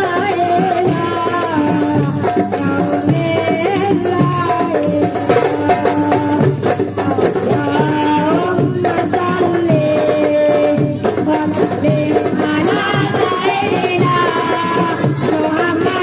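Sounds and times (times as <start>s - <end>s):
hand drums beating: 0.0s - 16.0s
person singing: 0.0s - 16.0s.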